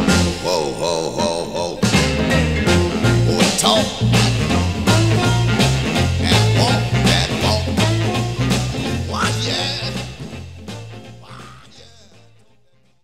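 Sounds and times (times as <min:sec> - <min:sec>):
deep bass notes: 0:00.0 - 0:12.4
electric guitars: 0:00.0 - 0:12.6
drums: 0:00.0 - 0:13.0.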